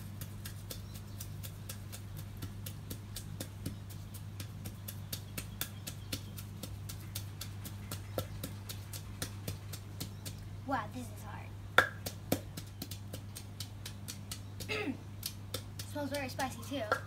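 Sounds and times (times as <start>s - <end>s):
pestle pounding in clay mortar: 0.0s - 10.4s, 11.8s - 17.0s.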